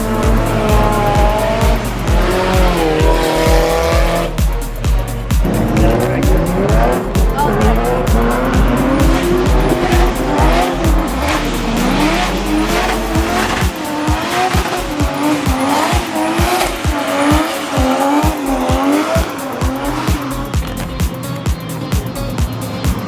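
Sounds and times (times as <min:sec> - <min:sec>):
car engine revving: 0:00.0 - 0:23.0
music with thumping beat: 0:00.0 - 0:23.0.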